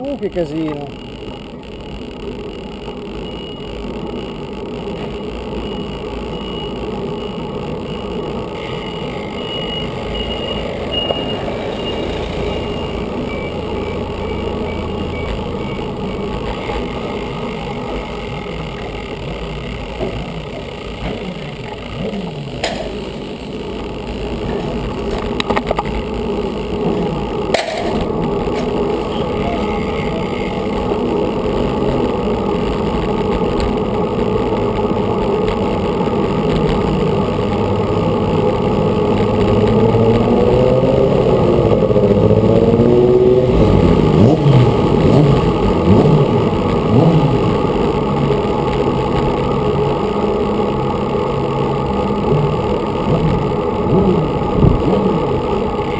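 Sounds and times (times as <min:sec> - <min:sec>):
road rumble: 0:00.0 - 0:55.9
wind: 0:00.0 - 0:55.9.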